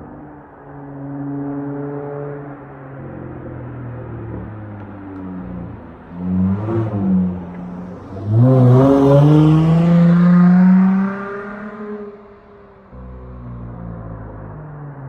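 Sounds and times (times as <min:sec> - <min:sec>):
car engine revving and accelerating: 0:00.0 - 0:15.0.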